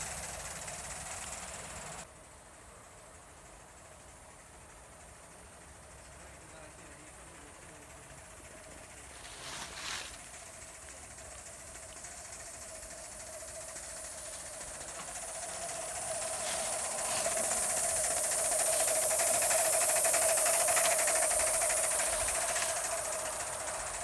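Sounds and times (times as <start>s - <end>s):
wheels running on rails: 0.0s - 2.1s, 5.1s - 24.0s
model steam train hissing: 0.0s - 24.0s
steady high whine: 0.0s - 24.0s.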